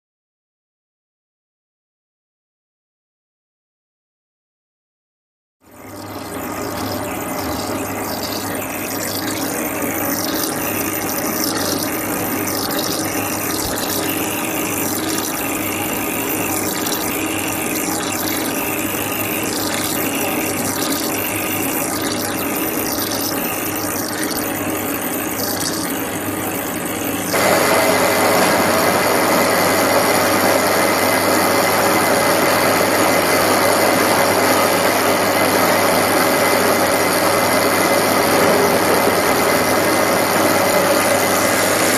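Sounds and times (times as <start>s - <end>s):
faint high whine: 5.7s - 41.9s
lathe cutting metal: 5.9s - 41.9s.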